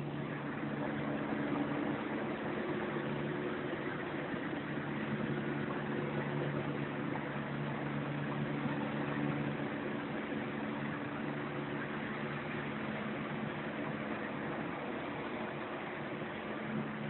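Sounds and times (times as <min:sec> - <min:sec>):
distant helicopter hum: 0:00.0 - 0:17.0.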